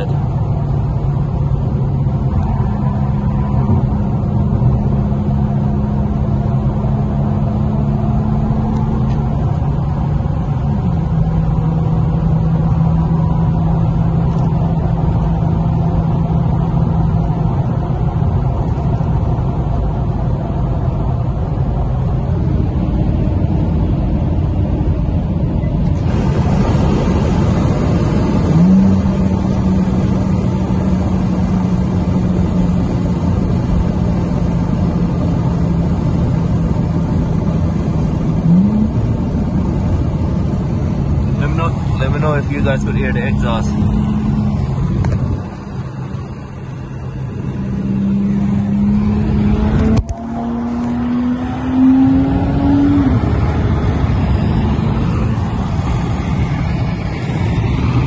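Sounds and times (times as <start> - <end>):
car engine droning: 0.0 - 58.0
rush of wind: 0.0 - 58.0
tyre and road noise: 0.0 - 58.0.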